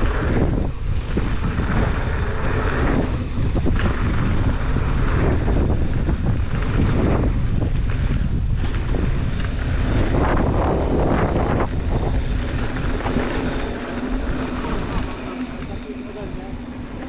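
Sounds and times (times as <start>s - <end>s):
bike rattles and knocks: 0.0s - 17.0s
bike tyres rumbling on dirt: 0.0s - 17.0s
wind buffeting microphone: 0.0s - 17.0s.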